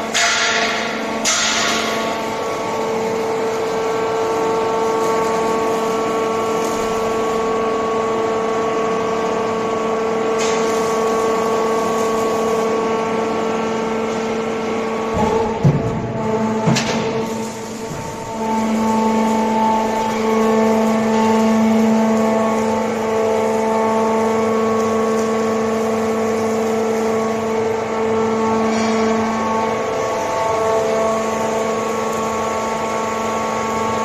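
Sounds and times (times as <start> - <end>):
hydraulic pump motor humming: 0.0 - 34.0.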